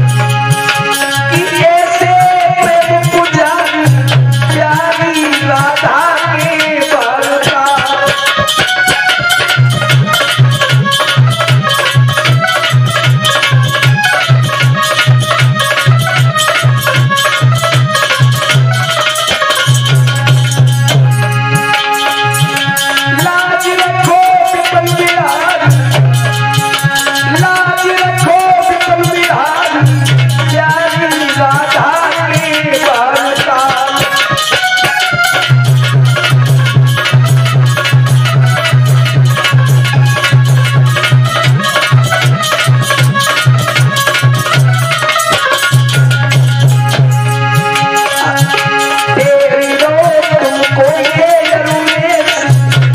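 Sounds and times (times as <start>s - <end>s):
dholak drum beat: 0.0s - 52.9s
harmonium melody: 0.0s - 52.9s
jingling percussion: 0.0s - 52.9s
man singing devotional song: 0.0s - 52.9s.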